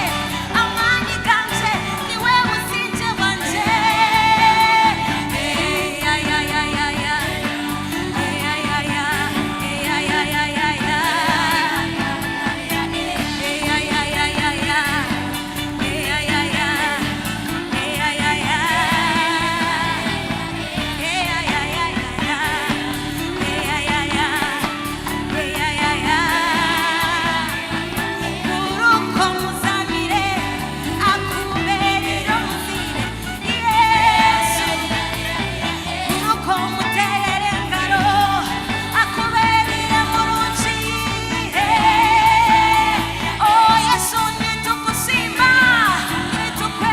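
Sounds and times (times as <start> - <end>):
band instrumental backing: 0.0 - 46.9.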